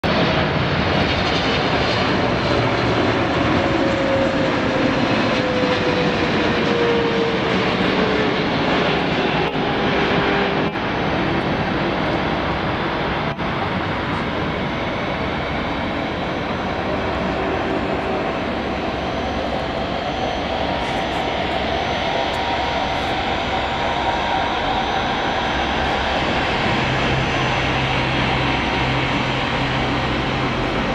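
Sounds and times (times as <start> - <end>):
jet engine roar and whine: 0.0 - 30.9.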